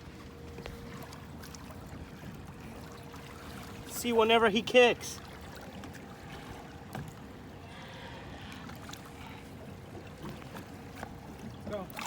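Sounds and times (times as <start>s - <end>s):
faint constant hum: 0.0s - 12.0s
fast-moving river water: 0.0s - 12.0s.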